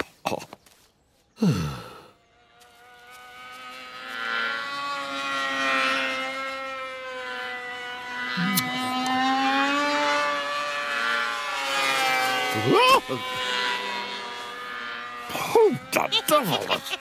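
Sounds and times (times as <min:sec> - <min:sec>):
engine drone: 0:01.4 - 0:17.0.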